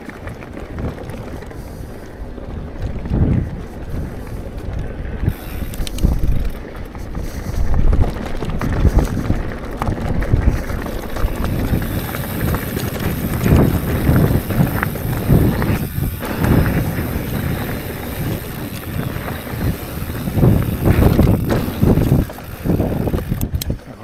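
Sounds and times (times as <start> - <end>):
bike rattling clicks and knocks: 0.0 - 24.0
wind buffeting microphone: 0.0 - 24.0.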